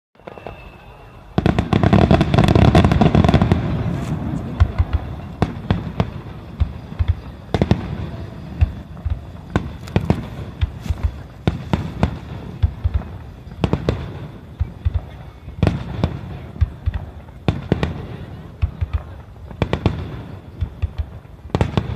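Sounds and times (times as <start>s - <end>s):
firework shells bursting: 0.2s - 17.9s.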